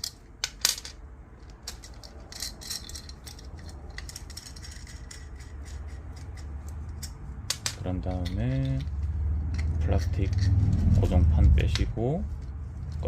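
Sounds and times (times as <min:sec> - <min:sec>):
metallic clicks and rattles: 0:00.0 - 0:11.1.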